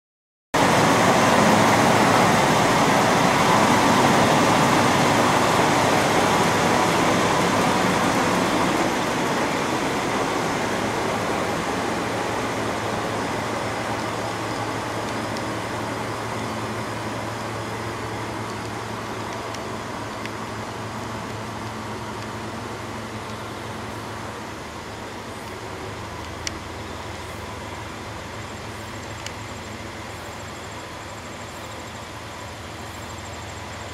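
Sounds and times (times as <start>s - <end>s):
diesel railcar engine pulling away: 0.6s - 33.9s.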